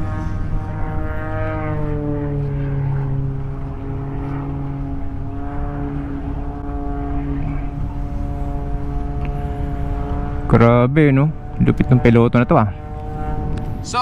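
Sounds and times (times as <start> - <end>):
plane engine drone: 0.0 - 14.0.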